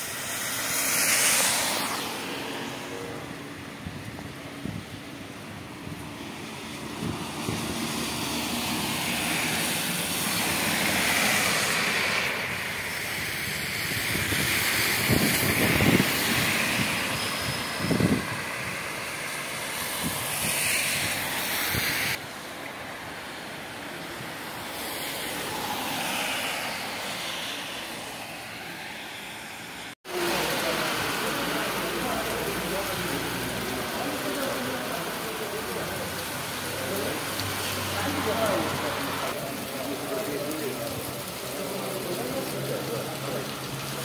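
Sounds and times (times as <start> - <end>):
tyres hissing on wet road: 0.0 - 44.0.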